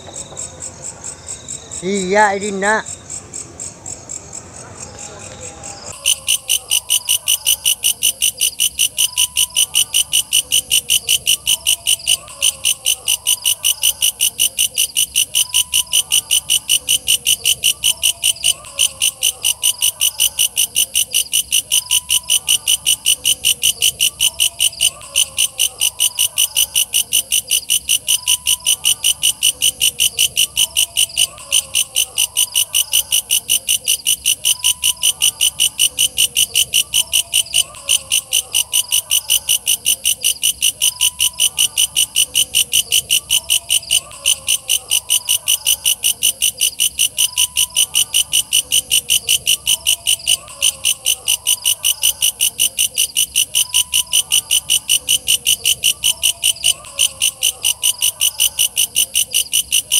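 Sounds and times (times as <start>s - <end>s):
katydid ticking song: 5.3s - 59.9s.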